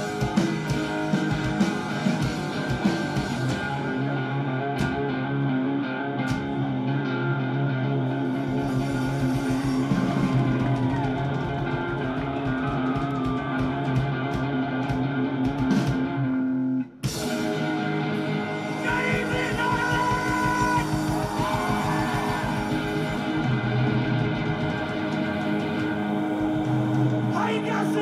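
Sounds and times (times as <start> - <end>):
held lead guitar notes: 0.0 - 28.0
rock band playing: 0.0 - 28.0.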